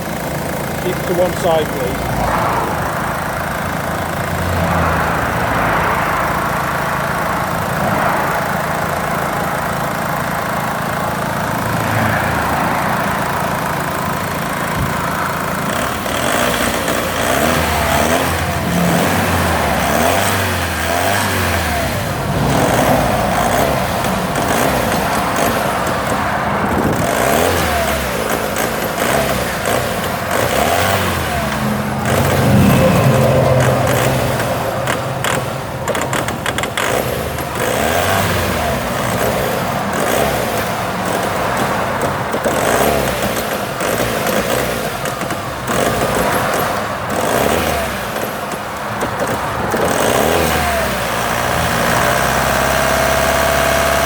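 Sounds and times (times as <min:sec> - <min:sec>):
car engine misfiring: 0:00.0 - 0:54.0.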